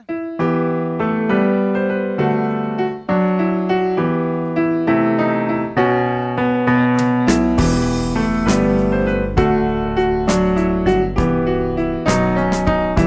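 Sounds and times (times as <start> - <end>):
piano melody over chords: 0.0 - 13.0.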